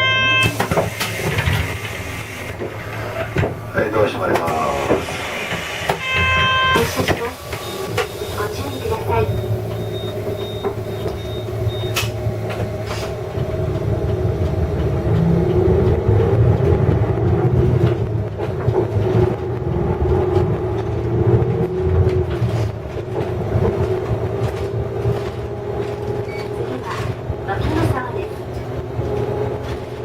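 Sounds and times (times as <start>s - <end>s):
bus engine rumble: 0.0s - 30.0s.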